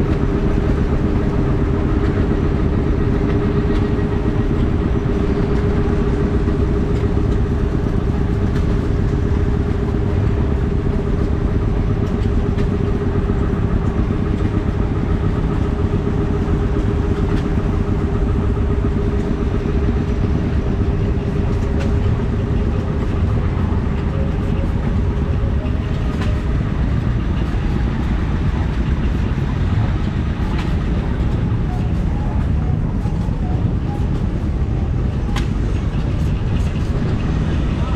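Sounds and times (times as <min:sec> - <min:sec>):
stationary engine running: 0:00.0 - 0:37.9.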